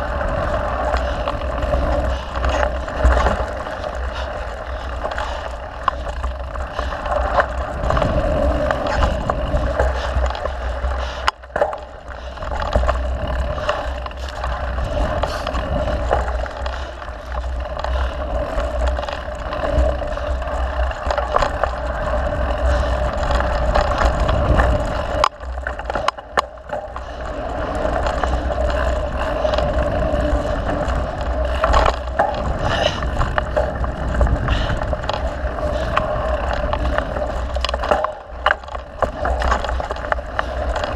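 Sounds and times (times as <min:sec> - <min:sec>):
bike tyre and frame rattle: 0:00.0 - 0:40.9
wind rumble on microphone: 0:00.0 - 0:40.9.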